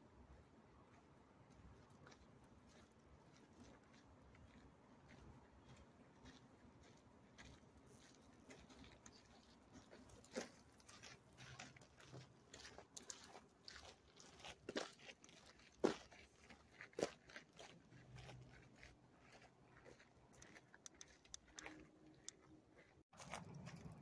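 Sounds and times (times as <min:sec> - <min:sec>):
footsteps crunching on trail: 0:00.8 - 0:24.0.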